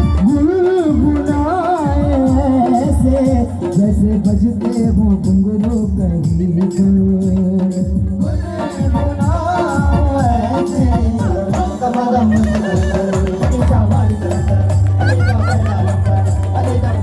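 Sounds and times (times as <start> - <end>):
shaker-like percussion: 0.0 - 17.0.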